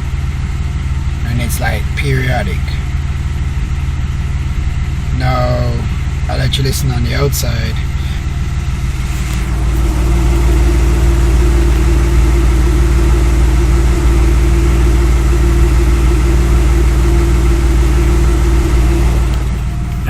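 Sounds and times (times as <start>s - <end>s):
car engine idling rough: 0.0s - 20.0s.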